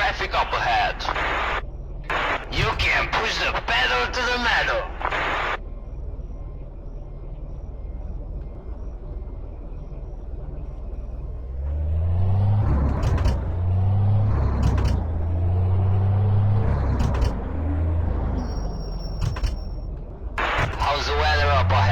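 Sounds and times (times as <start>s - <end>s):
truck engine rumbling: 0.0s - 21.9s.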